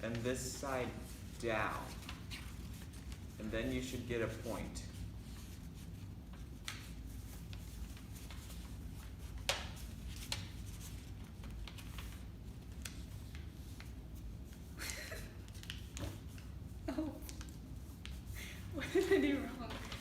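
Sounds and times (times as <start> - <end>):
paper folding and rustling: 0.0 - 20.0
steady low hum: 0.0 - 20.0.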